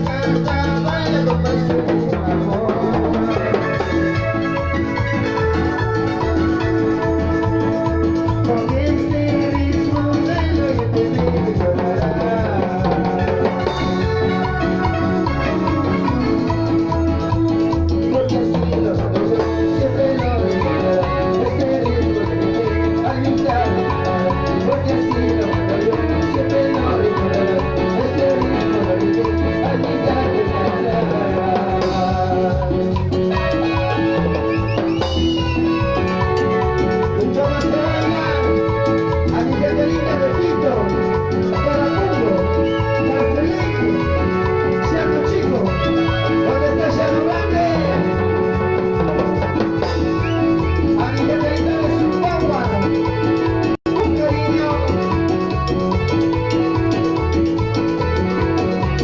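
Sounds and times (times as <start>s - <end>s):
live cumbia band music: 0.0s - 59.0s.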